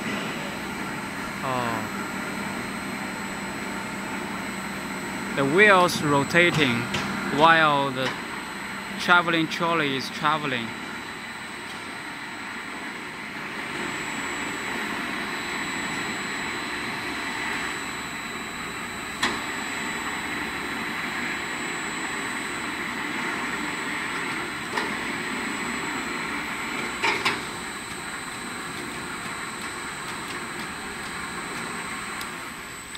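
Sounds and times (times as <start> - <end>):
machine motors humming and whining: 0.0 - 32.9.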